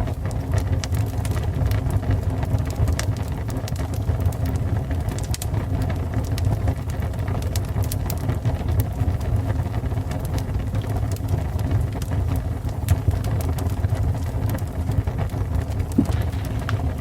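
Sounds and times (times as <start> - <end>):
fire burning: 0.0 - 17.0
fire crackles and pops: 0.0 - 17.0.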